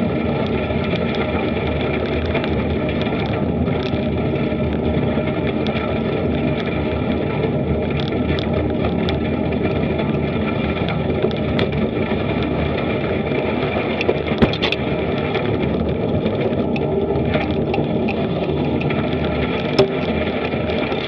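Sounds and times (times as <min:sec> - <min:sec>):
bicycle rolling on gravel: 0:00.0 - 0:21.0
small clicks and rattles: 0:00.0 - 0:21.0.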